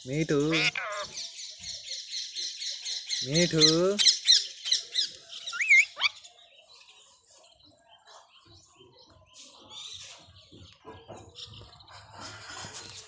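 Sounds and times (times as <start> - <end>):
bird chirps and twittering: 0.0 - 13.0.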